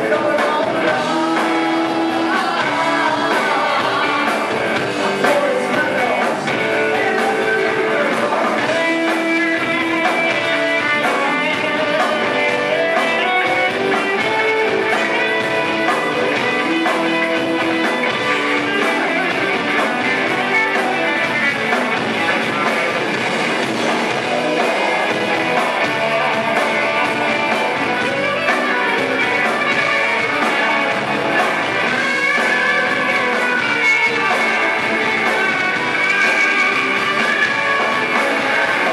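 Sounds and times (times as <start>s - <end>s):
electric guitars: 0.0s - 38.9s
live rock band playing: 0.0s - 38.9s.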